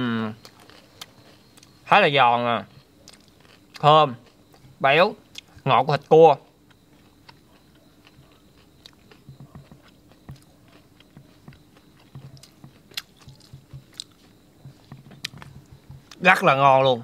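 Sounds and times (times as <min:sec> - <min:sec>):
person chewing crunchy food: 0:00.4 - 0:01.8, 0:02.7 - 0:16.2.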